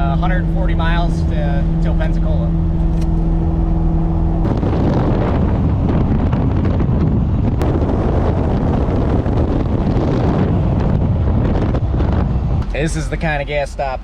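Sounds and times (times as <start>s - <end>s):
low road and engine rumble: 0.0s - 14.0s
wind rushing over microphone: 0.0s - 14.0s.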